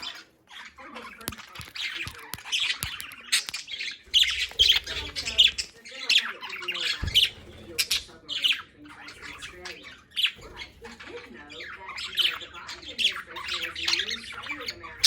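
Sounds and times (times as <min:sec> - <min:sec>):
budgerigars chattering and squawking: 0:00.0 - 0:15.0.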